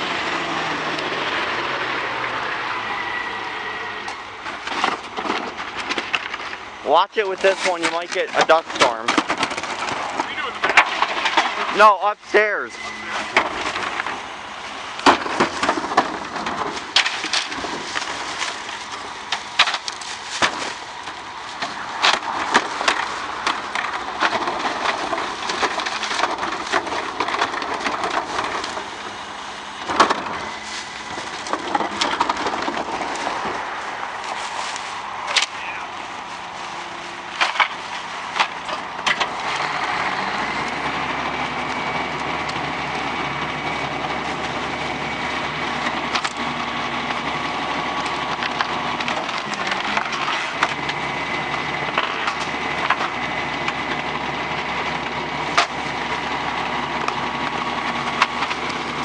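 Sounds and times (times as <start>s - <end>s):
machinery whine: 0.0s - 59.0s
wood cracking and splintering: 4.0s - 14.3s, 14.9s - 59.0s.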